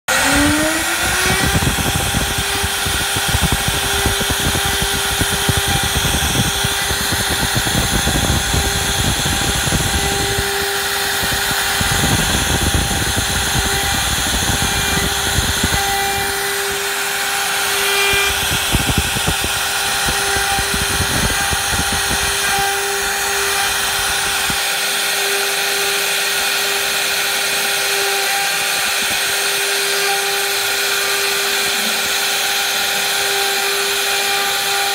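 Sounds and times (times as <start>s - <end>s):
bit cutting wood: 0.0s - 34.9s
router spindle whining: 0.0s - 34.9s.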